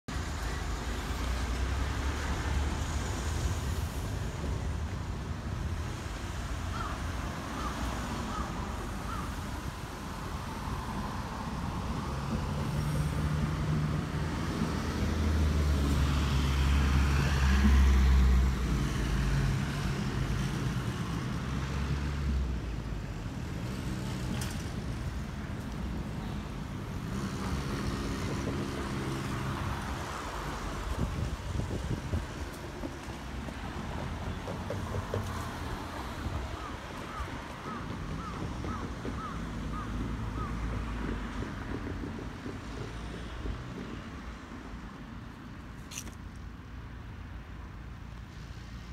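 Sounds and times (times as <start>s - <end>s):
street traffic: 0.1s - 48.9s.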